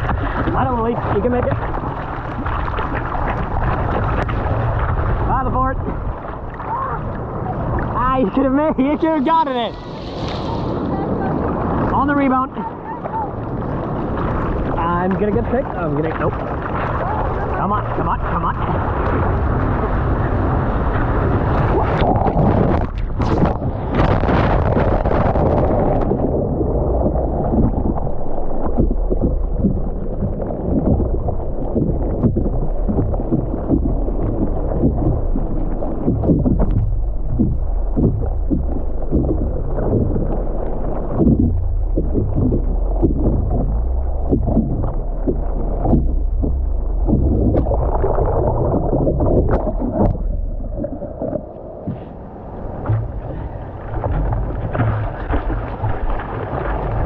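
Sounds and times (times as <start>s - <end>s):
water splashing: 0.0s - 57.0s
wind buffeting microphone: 0.0s - 57.0s.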